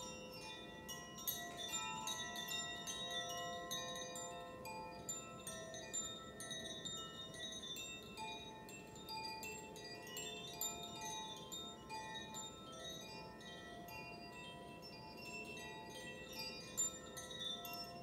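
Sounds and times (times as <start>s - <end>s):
metal wind chimes ringing: 0.0s - 18.0s.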